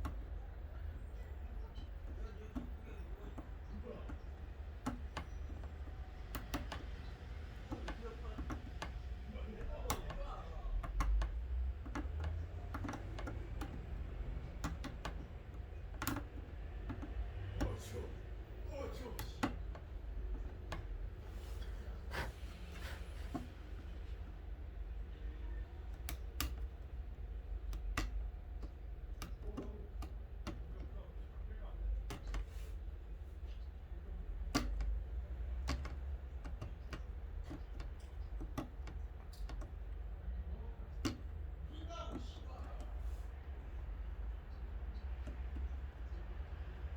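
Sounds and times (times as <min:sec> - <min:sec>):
small parts clicking and tapping: 0:00.0 - 0:21.7, 0:23.2 - 0:46.9.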